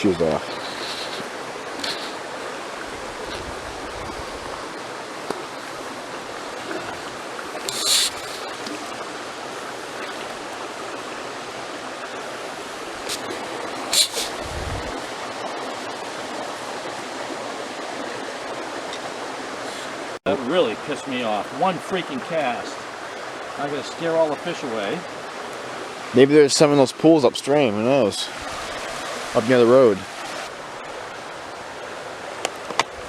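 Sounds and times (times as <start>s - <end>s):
brook water running over rocks: 0.0s - 33.0s.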